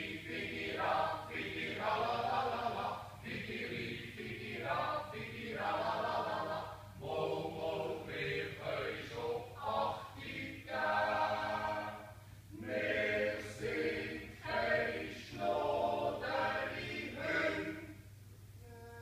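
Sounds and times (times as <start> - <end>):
choir yodeling a cappella: 0.0 - 18.1.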